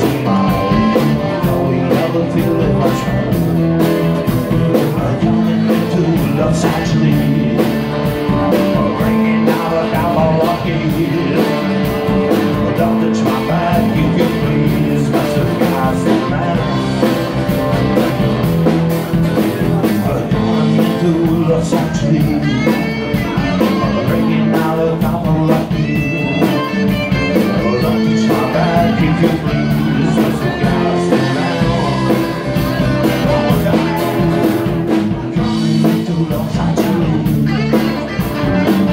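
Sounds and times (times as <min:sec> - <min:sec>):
man singing: 0:00.0 - 0:18.5, 0:19.1 - 0:38.9
live rock music: 0:00.0 - 0:38.9.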